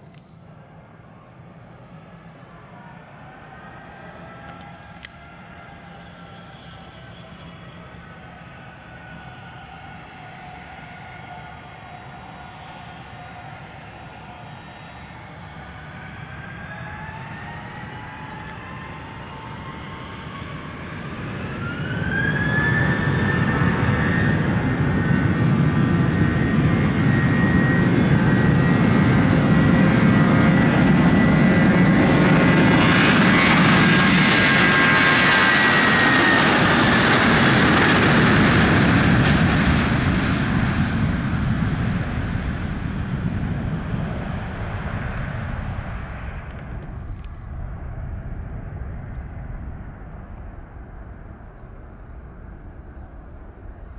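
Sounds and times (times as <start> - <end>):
jet engines spooling up: 3.4 - 53.9.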